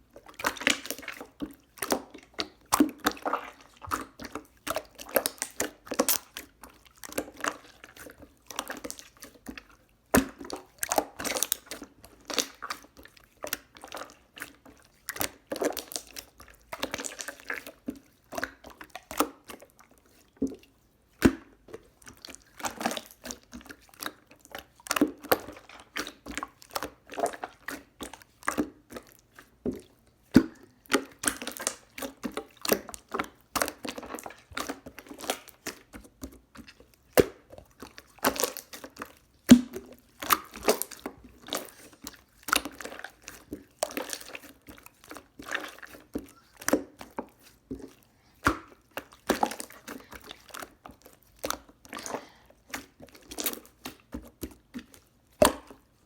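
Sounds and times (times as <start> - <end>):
close-up crunching and crackling: 0.0 - 56.0.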